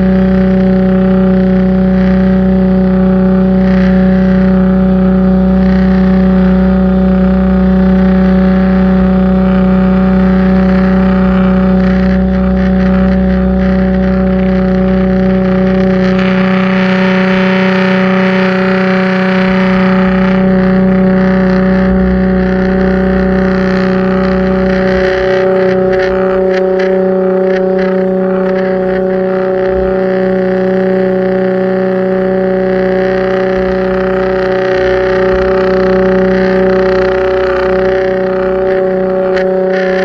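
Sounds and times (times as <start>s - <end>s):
pressure washer motor hum: 0.0s - 40.0s.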